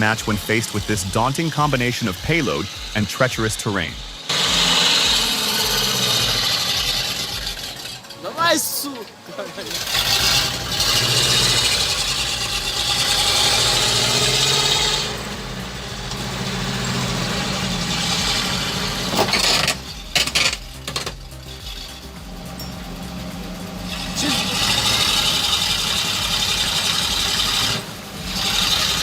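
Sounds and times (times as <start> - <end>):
truck engine straining: 0.0 - 29.0.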